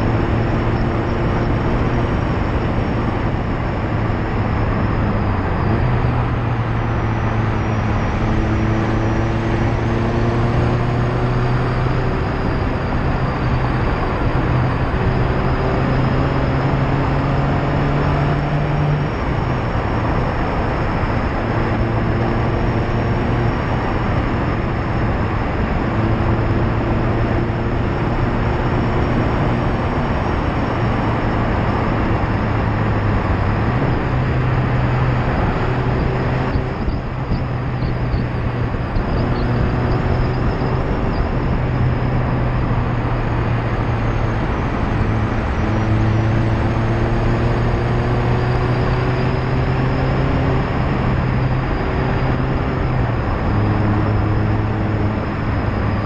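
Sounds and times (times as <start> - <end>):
car engine and exhaust: 0.0 - 56.0
tyre roar on road: 0.0 - 56.0.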